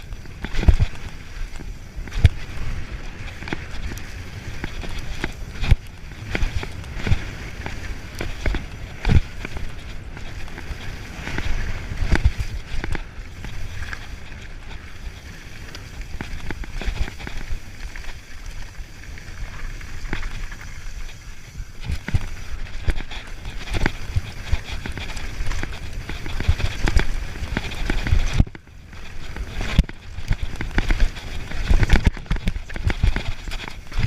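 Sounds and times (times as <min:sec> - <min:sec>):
bike knocking and rattling: 0:00.0 - 0:34.0
bike tyres rumbling on dirt: 0:00.0 - 0:34.0.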